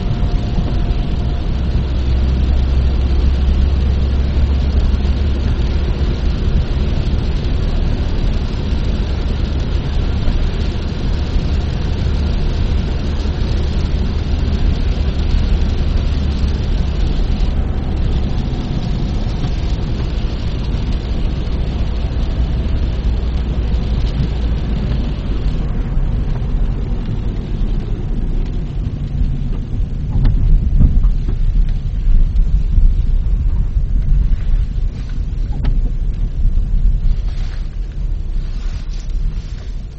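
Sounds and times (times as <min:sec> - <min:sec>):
car road noise rumble: 0:00.0 - 0:39.9
tyre hiss on wet road: 0:01.0 - 0:29.1, 0:33.4 - 0:39.9.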